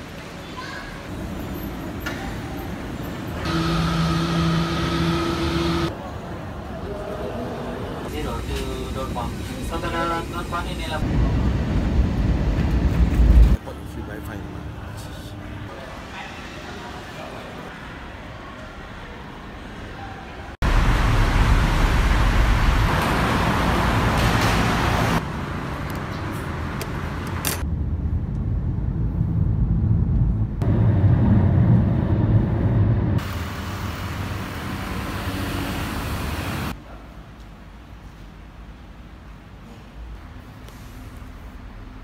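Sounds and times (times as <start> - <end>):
road traffic: 0.0 - 36.8.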